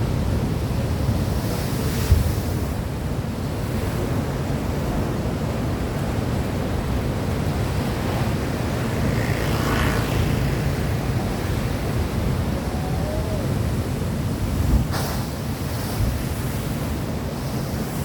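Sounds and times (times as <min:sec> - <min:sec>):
ocean surf: 0:00.0 - 0:18.0
wind buffeting microphone: 0:00.0 - 0:18.0.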